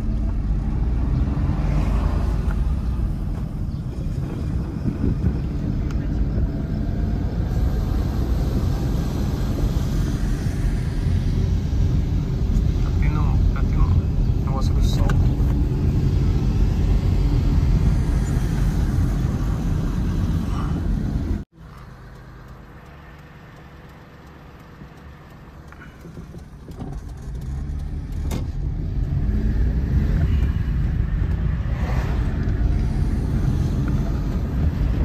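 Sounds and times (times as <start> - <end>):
road and engine rumble: 0.0 - 35.0.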